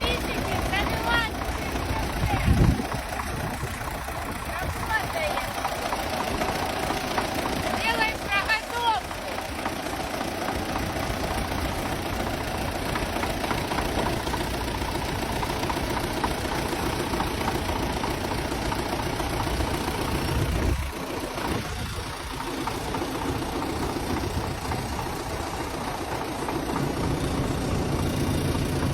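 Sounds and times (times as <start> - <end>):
knocking rattle: 0.0 - 28.9
tractor engine starting: 0.0 - 28.9.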